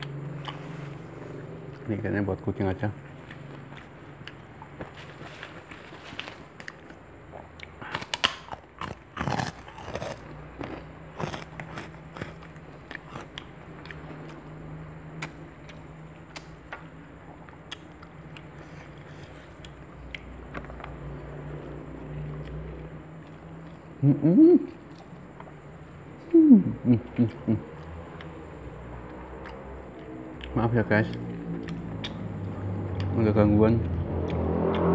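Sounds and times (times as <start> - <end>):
chewing and crunching food: 0.0 - 24.0, 24.6 - 26.3, 27.0 - 33.2.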